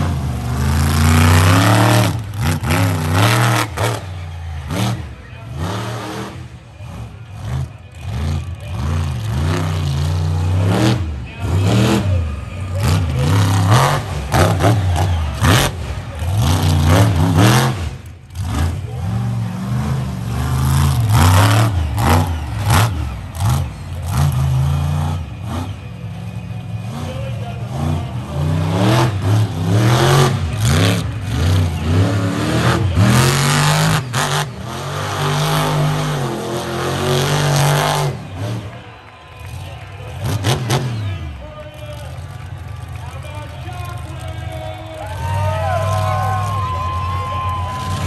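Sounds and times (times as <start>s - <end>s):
monster truck engine revving: 0.0s - 48.0s.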